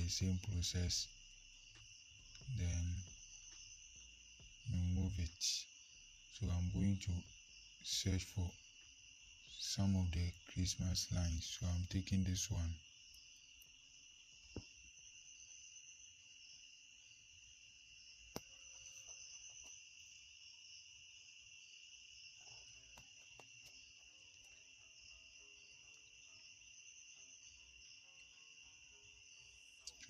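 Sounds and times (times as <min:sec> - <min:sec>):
insect chirring: 0:00.0 - 0:30.0.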